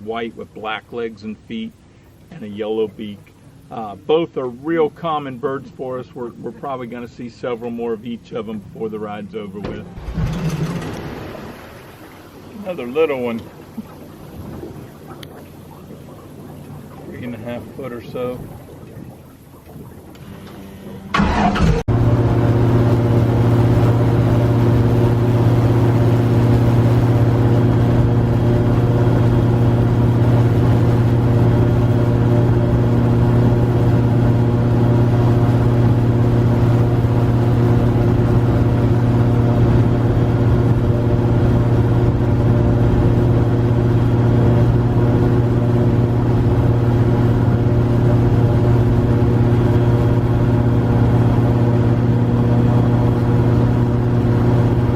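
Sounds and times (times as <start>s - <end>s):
airboat engine and propeller: 0.0s - 54.9s.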